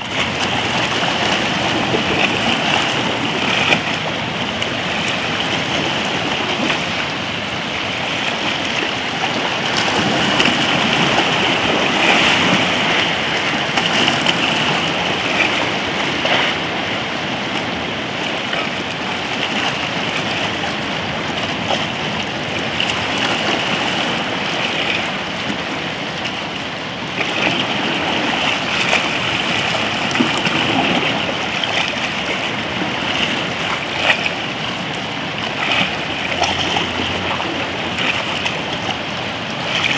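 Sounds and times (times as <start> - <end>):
seawater lapping around rocks: 0.0 - 39.9.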